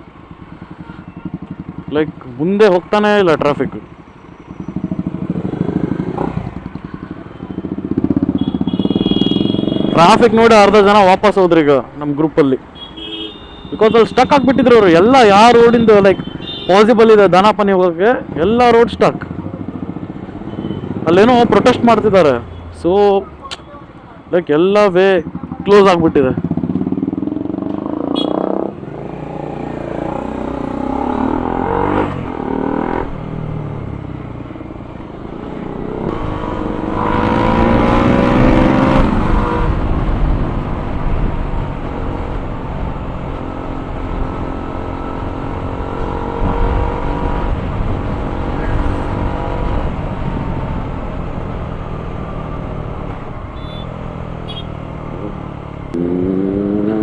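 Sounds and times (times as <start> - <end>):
motorcycle engines running: 0.0 - 11.3, 11.9 - 23.4, 25.0 - 57.0
road and wind noise: 0.0 - 57.0.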